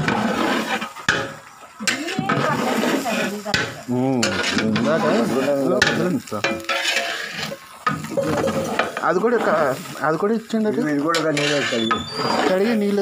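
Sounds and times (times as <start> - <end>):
metal ladle scraping a pot: 0.0 - 10.0, 10.8 - 13.0
rice sizzling: 0.0 - 13.0.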